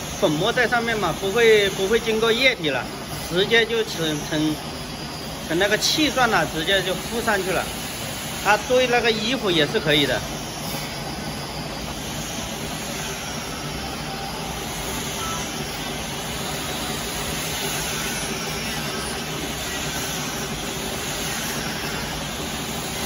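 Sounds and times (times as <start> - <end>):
furnace hiss and hum: 0.0 - 23.0.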